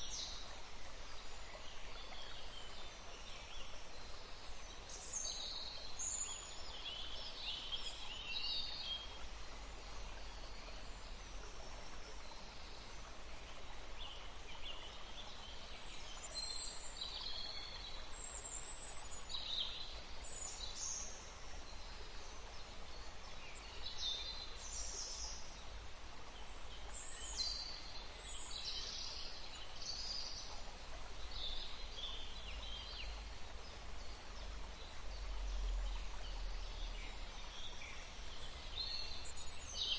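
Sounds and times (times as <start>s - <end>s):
running water: 0.0s - 39.9s
songbirds chirping: 0.0s - 39.9s.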